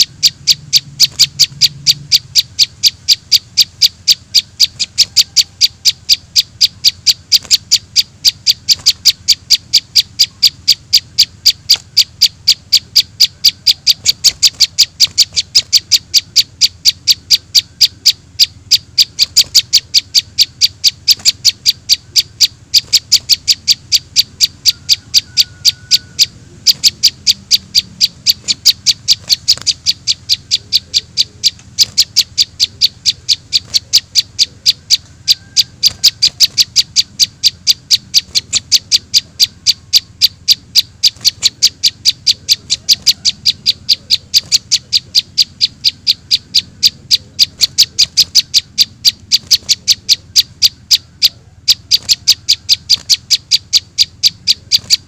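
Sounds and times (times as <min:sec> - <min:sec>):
high bird chirps: 0:00.0 - 0:55.0.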